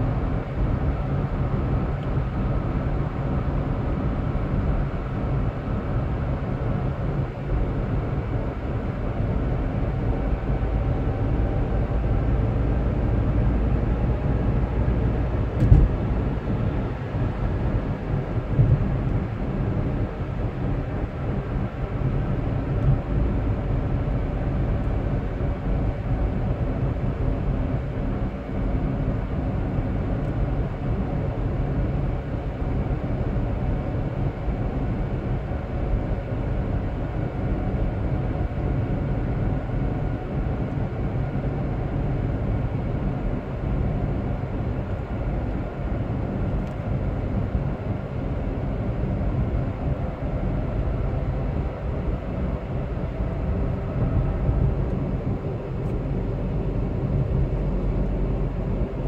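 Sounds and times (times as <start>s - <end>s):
car engine and tyre hum: 0.0s - 59.0s.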